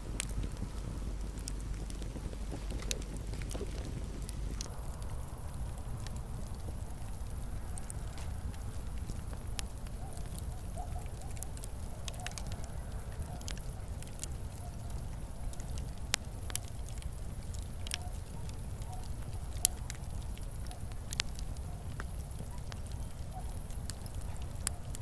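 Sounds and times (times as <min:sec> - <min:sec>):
low steady rumble: 0:00.0 - 0:25.0
wood fire crackling and popping: 0:00.0 - 0:25.0.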